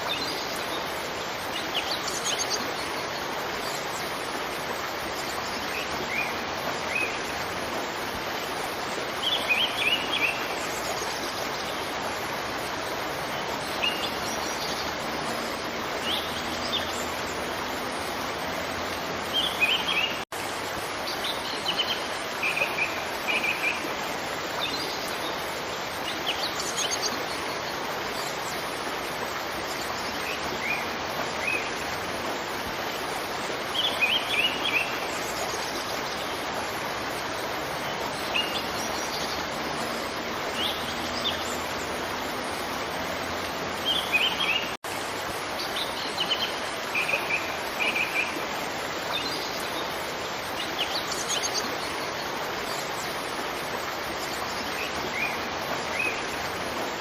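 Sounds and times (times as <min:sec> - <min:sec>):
songbirds chirping: 0:00.0 - 0:57.0
waterfall rushing: 0:00.0 - 0:57.0.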